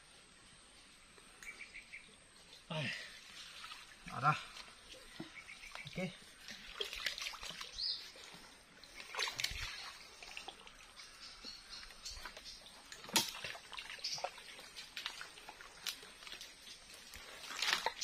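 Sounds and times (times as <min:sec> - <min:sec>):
wading through muddy water: 0:00.0 - 0:18.0.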